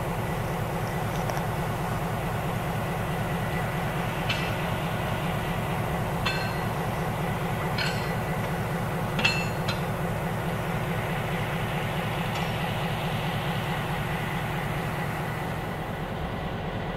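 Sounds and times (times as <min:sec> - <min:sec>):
diesel locomotive idling: 0:00.0 - 0:16.9.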